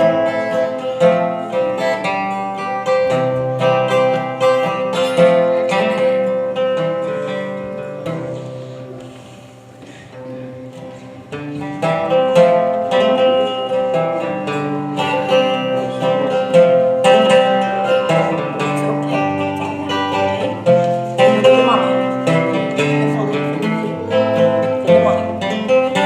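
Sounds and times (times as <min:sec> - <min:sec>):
instrumental music with plucked guitar: 0:00.0 - 0:26.0.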